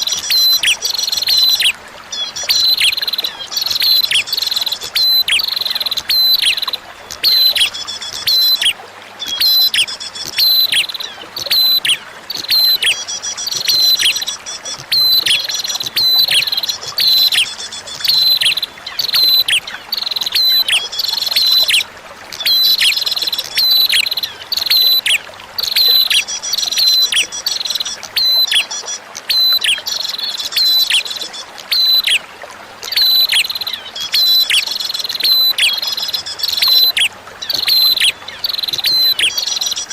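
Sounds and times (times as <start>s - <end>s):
bird singing high sharp phrases: 0.0s - 32.2s, 32.9s - 39.9s
faint running water hiss: 0.0s - 39.9s.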